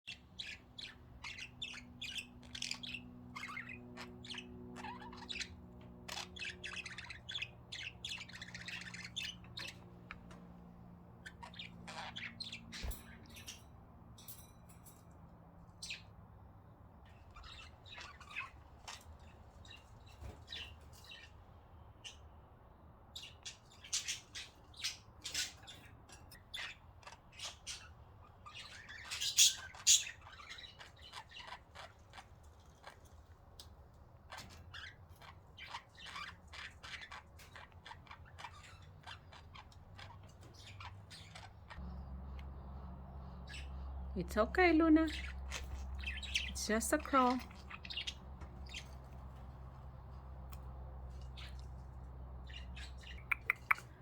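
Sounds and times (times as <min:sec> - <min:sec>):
budgerigars chirping: 0:00.1 - 0:10.4, 0:11.2 - 0:13.7, 0:15.8 - 0:16.2, 0:17.1 - 0:22.3, 0:23.2 - 0:54.0.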